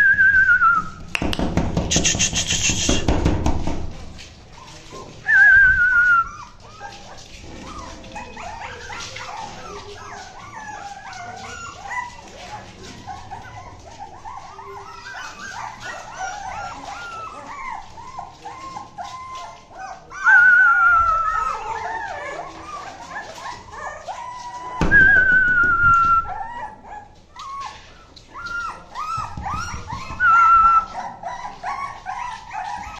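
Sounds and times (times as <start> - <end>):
puppies whimpering and squealing: 4.2 - 32.9
puppy whining cries: 4.6 - 32.9.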